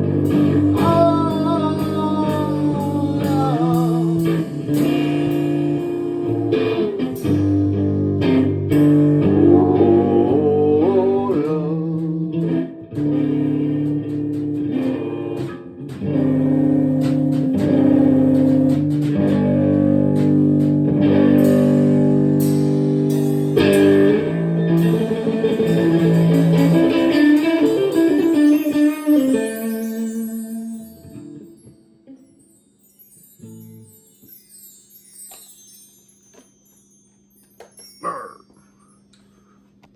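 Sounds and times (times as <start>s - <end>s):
guitar chords ringing: 0.0s - 36.2s.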